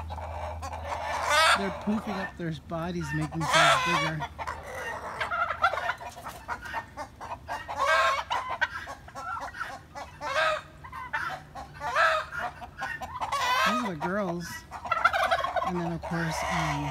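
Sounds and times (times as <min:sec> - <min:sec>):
chickens clucking and calling: 0:00.0 - 0:16.9.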